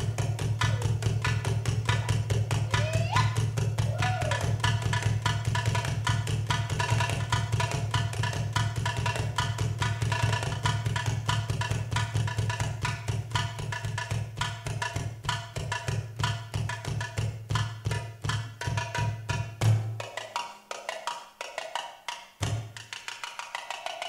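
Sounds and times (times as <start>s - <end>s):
fast hand drums: 0.0s - 24.0s.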